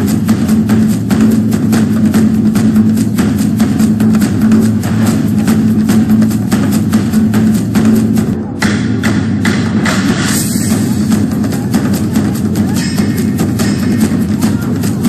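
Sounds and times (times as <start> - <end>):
drum and percussion beat: 0.0 - 15.0.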